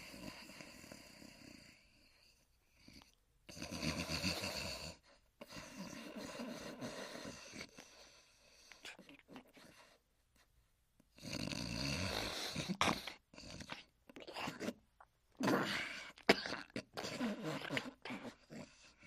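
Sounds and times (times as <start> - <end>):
dog snoring: 0.0 - 10.0, 11.1 - 14.8, 15.4 - 19.0.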